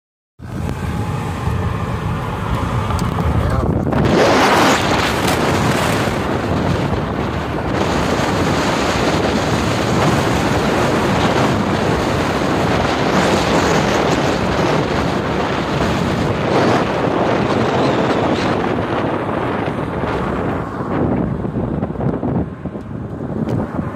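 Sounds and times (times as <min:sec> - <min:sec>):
road and tyre noise: 0:00.4 - 0:23.9
wind buffeting microphone: 0:00.4 - 0:23.9.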